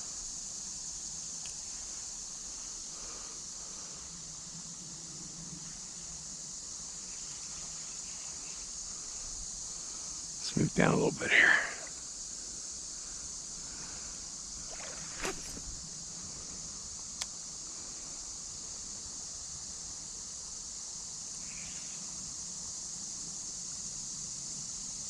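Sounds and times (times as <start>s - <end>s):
creek water hissing: 0.0s - 21.6s.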